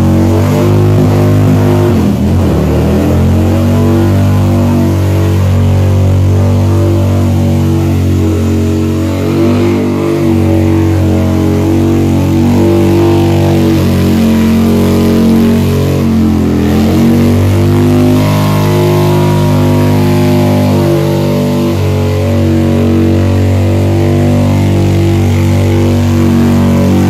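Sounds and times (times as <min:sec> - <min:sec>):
motorcycle engine revving high: 0:00.0 - 0:27.0.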